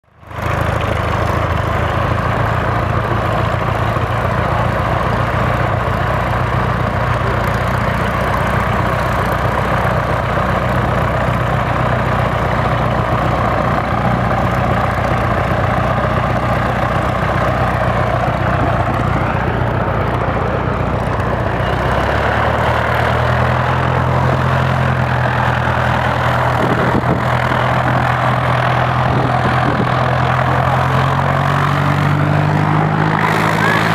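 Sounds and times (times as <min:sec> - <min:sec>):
piston engine and propeller running: 0:00.0 - 0:33.9.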